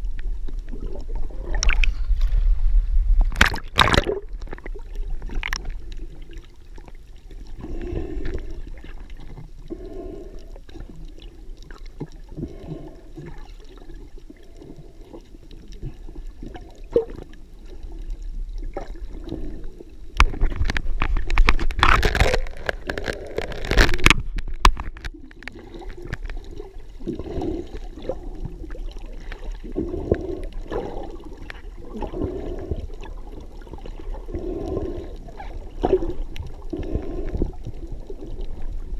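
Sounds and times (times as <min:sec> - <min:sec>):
crackling splashes: 0:00.0 - 0:38.9
muffled underwater water rush: 0:00.0 - 0:38.9.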